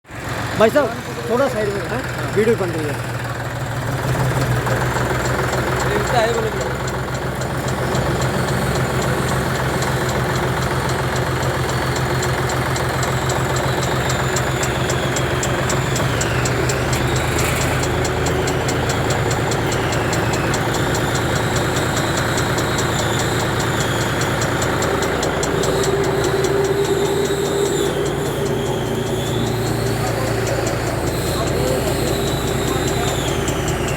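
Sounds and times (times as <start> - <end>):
tractor engine running: 0.0 - 33.9
flour mill mechanical hum: 0.1 - 33.9.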